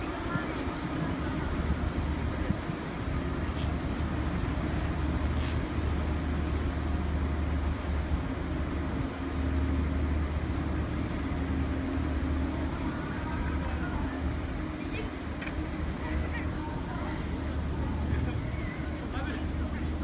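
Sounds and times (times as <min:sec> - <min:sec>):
train rumbling across steel bridge: 0:00.0 - 0:20.0.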